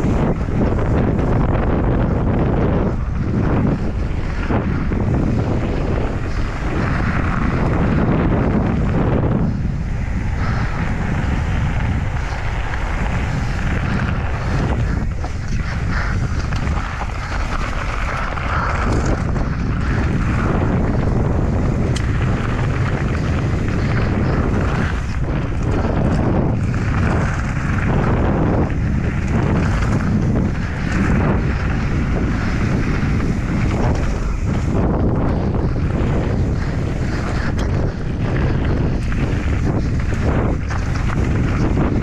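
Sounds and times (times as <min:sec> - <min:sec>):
bike rattling: 0:00.0 - 0:42.0
tyres rolling on gravel: 0:00.0 - 0:42.0
wind rushing over microphone: 0:00.0 - 0:42.0.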